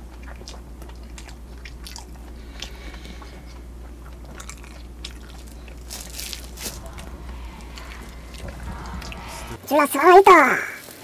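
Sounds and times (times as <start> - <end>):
low electrical hum: 0.0 - 10.5.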